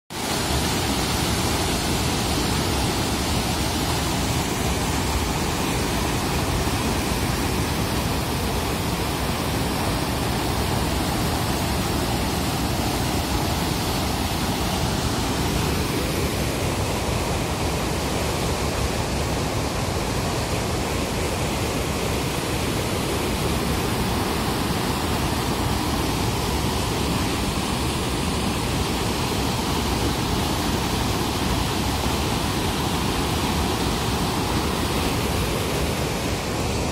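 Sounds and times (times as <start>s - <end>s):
water rushing over weir: 0.1s - 36.9s.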